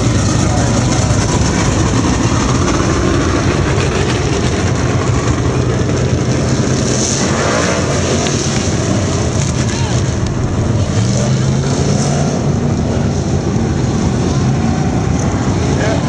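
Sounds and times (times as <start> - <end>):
stock car engines droning: 0.0 - 16.0.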